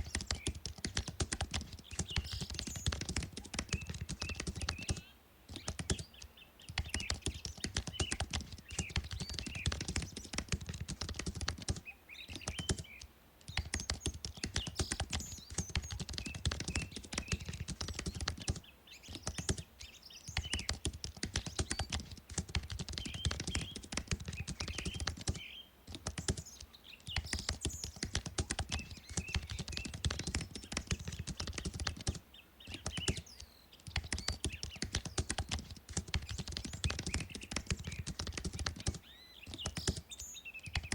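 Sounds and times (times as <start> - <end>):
typing on computer keyboard: 0.0 - 19.6, 20.4 - 40.0, 40.7 - 40.9.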